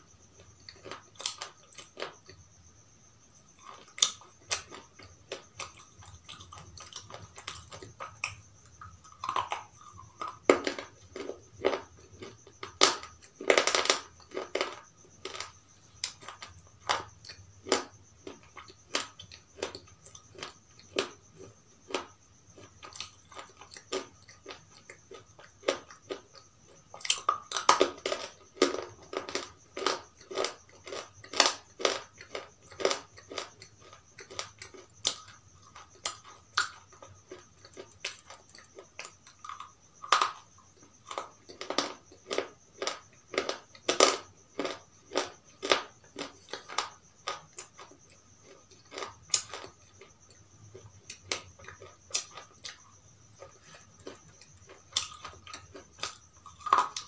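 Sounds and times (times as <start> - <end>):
person crunching hard food: 0.4 - 2.4, 3.6 - 57.0.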